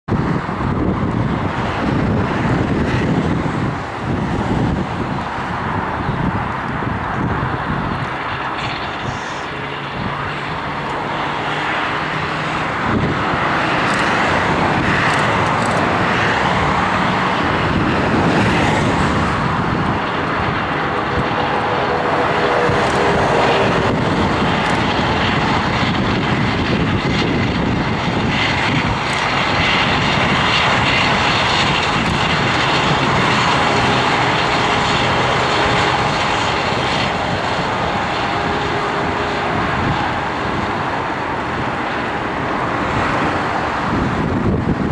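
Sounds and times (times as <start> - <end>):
jet engines running: 0.1 - 44.9.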